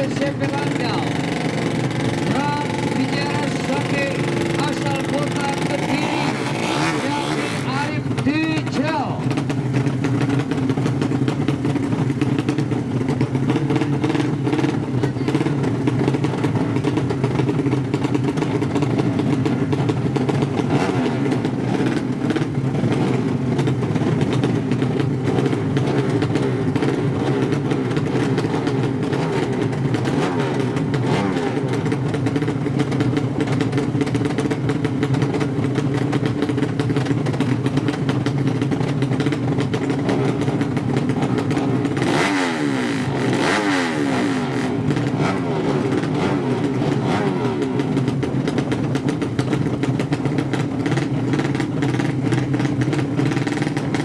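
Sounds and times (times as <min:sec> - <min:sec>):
motorcycle engines running loudly: 0:00.0 - 0:54.0.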